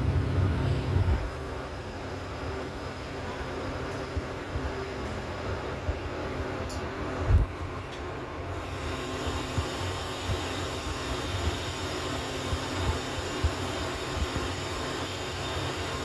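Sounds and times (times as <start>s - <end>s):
elevator mechanical hum: 0.0s - 16.0s.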